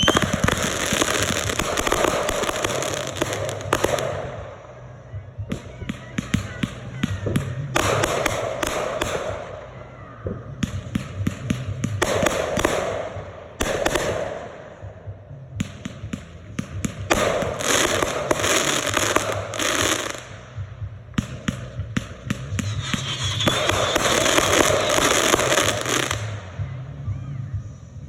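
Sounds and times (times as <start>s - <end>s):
firework bangs: 0.0s - 4.6s, 5.5s - 26.6s
firework crackling: 0.0s - 4.8s, 5.5s - 14.9s, 15.6s - 26.5s.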